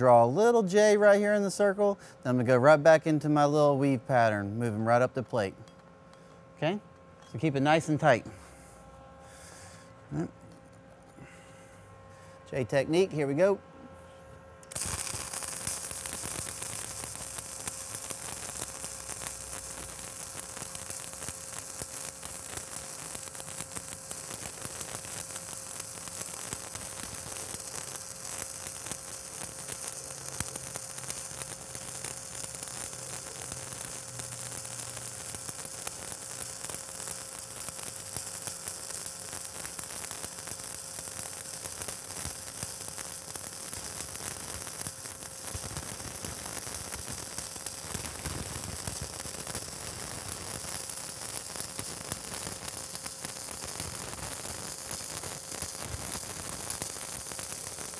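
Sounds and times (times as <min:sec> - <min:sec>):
welding arc crackling sizzle: 0:00.0 - 0:05.6, 0:06.2 - 0:11.1, 0:12.5 - 0:13.6, 0:14.6 - 0:57.9
faint steady hum: 0:00.0 - 0:57.9.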